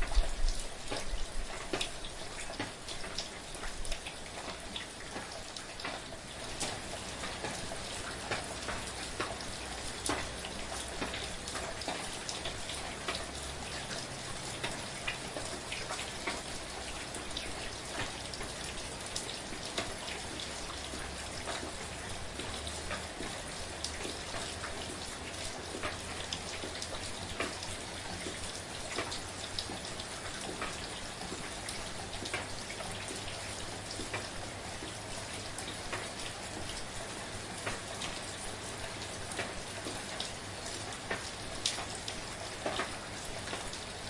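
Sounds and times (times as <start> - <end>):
gentle rain hiss: 0.0 - 44.0
raindrops ticking on a surface: 0.0 - 44.0.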